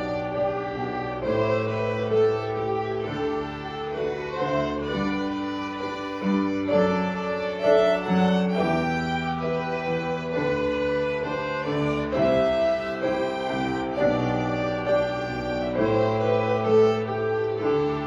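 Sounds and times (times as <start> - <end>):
violin ensemble playing: 0.0 - 18.0.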